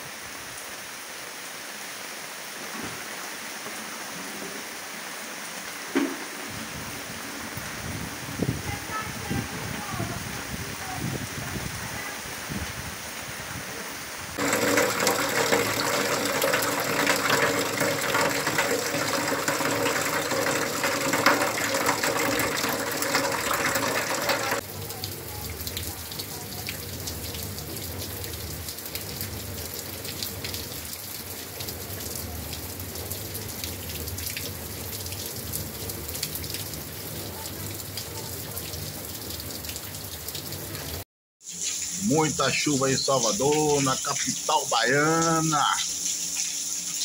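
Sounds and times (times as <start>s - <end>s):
heavy rain: 0.0s - 41.0s, 41.6s - 46.4s
rainwater pouring off roof and splashing: 0.0s - 47.0s.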